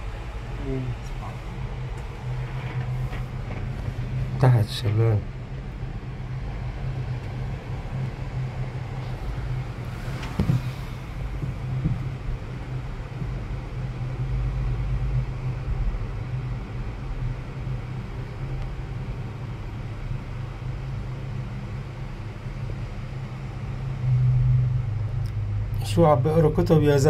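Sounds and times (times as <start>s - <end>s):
gondola cabin hum and rumble: 0.0s - 27.0s.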